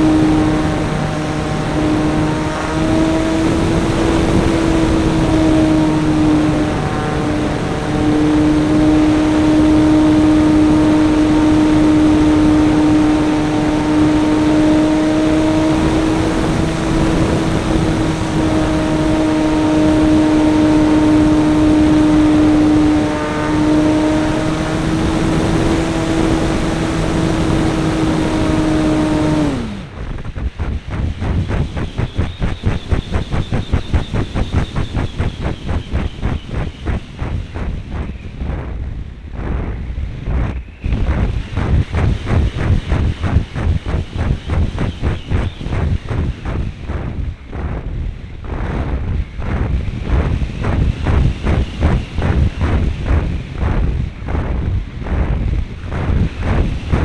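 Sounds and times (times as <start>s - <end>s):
model airplane engine: 0.0s - 57.0s.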